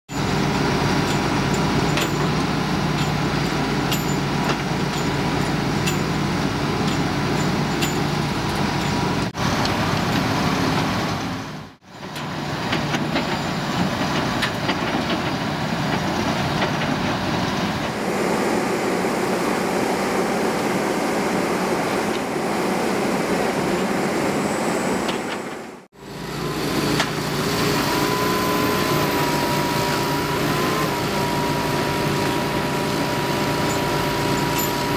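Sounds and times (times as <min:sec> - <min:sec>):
heavy diesel machinery running: 0:00.1 - 0:34.9.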